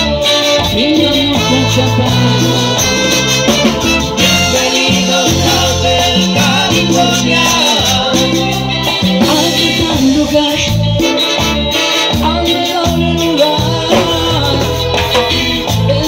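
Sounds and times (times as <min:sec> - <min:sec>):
latin dance band playing: 0:00.0 - 0:16.0.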